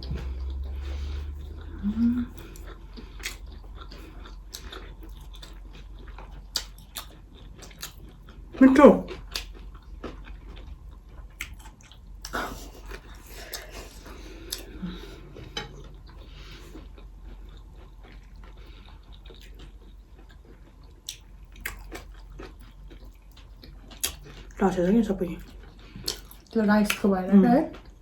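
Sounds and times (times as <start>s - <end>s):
person chewing food: 0.0s - 24.6s, 25.4s - 27.0s, 27.7s - 28.0s.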